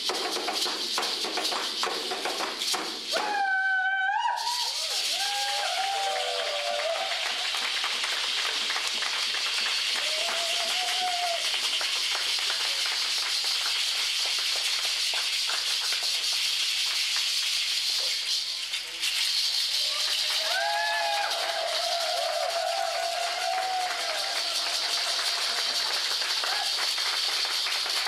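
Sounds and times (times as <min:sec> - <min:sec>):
rattles shaking: 0:00.0 - 0:03.2, 0:04.4 - 0:28.0.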